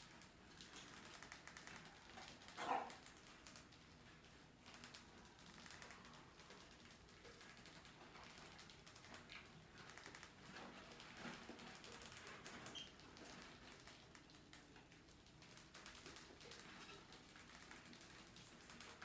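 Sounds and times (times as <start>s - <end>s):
rodents scurrying: 0.0s - 19.0s.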